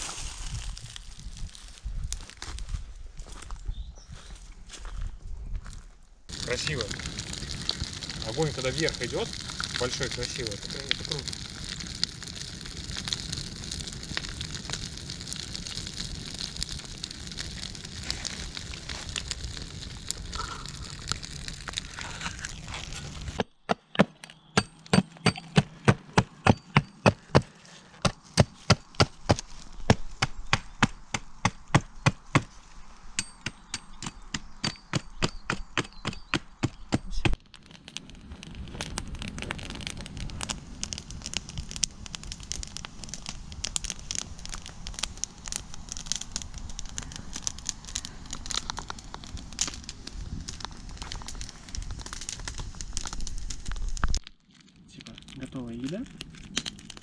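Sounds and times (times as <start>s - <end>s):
campfire crackling: 0.0s - 3.5s, 5.6s - 23.6s, 24.3s - 57.0s
sharp wooden cracks: 6.3s - 32.5s, 33.4s - 57.0s.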